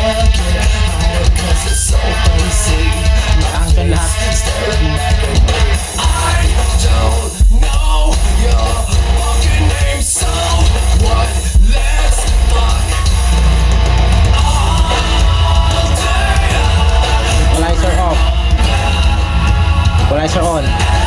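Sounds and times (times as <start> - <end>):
loud rock music with singing: 0.0 - 21.0.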